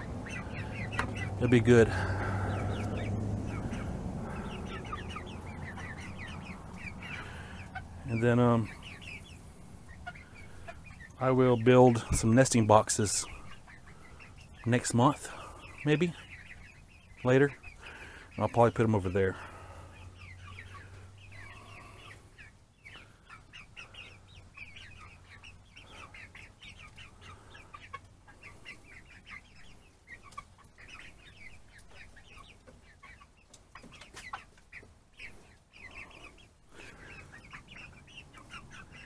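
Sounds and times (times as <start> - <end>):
chicks peeping and clucking: 0.0 - 39.0.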